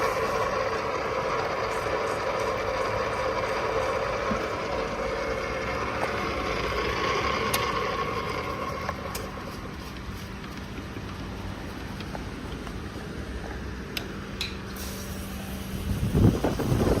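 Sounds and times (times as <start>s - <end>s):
pipe threading machine humming: 0.0s - 17.0s.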